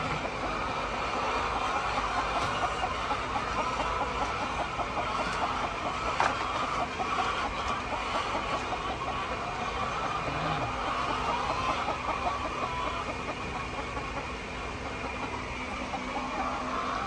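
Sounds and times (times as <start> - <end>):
hens clucking: 0.0 - 17.0
steady background noise: 0.0 - 17.0.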